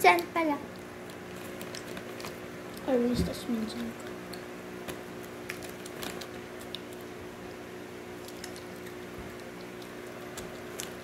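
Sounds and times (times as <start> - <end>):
steady low hum: 0.0 - 11.0
wet chewing sounds: 0.1 - 2.9, 3.7 - 11.0.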